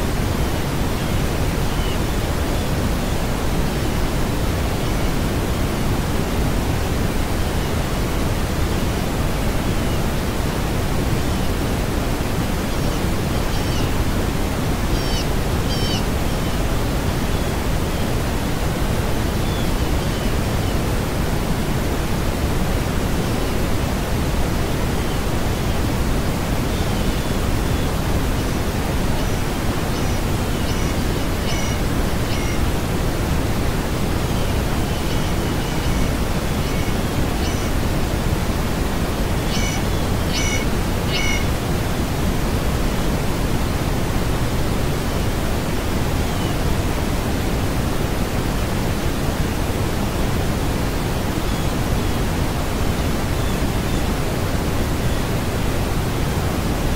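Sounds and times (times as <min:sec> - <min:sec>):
steady hiss of noise: 0:00.0 - 0:56.9.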